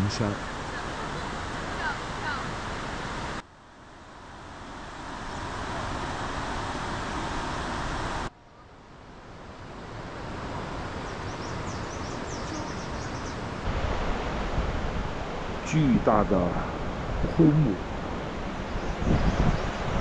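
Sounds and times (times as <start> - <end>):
forest ambience rushing noise: 0.0 - 20.0.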